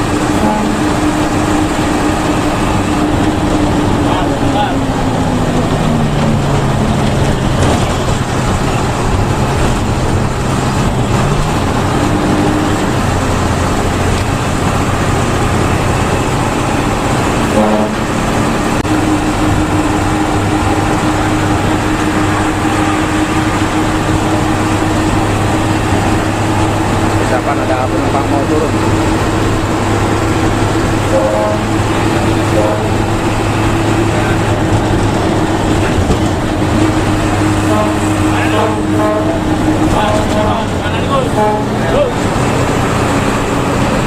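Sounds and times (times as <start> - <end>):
bus engine drone: 0.0 - 44.0
road noise: 0.0 - 44.0.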